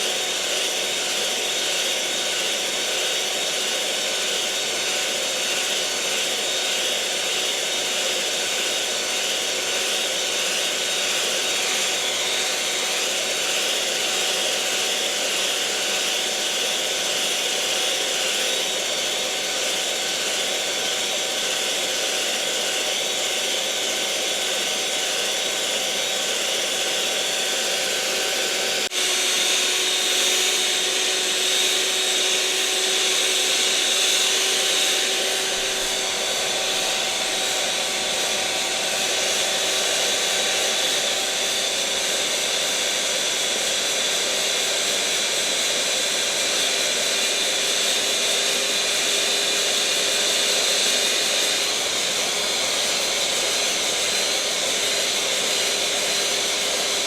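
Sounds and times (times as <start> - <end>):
kitchen mixer motor whirring: 0.0 - 57.0.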